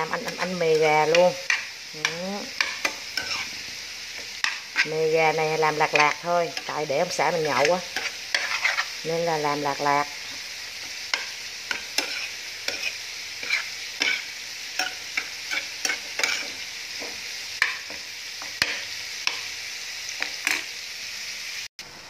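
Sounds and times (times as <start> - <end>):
meat sizzling in a frying pan: 0.0 - 22.0
spoon scraping and knocking pan: 0.2 - 5.0, 5.8 - 9.0, 10.2 - 19.5, 20.2 - 20.7.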